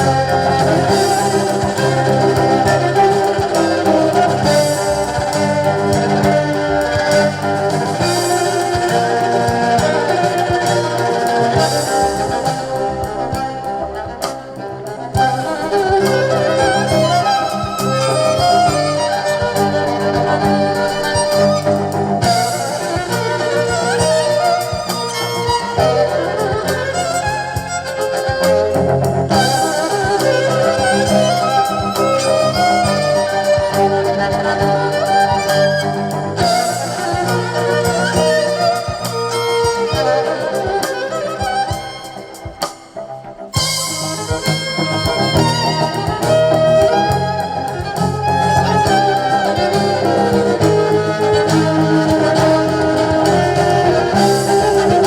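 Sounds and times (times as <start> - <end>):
live band playing instrumental: 0.0 - 55.0.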